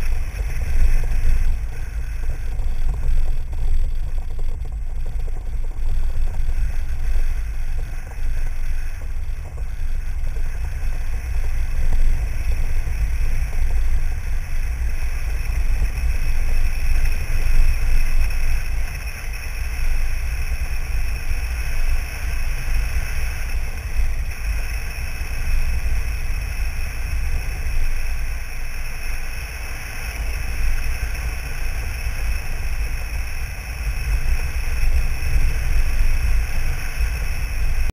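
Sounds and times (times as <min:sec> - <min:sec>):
vehicle road and engine rumble: 0:00.0 - 0:37.9
wind buffeting microphone: 0:00.0 - 0:37.9.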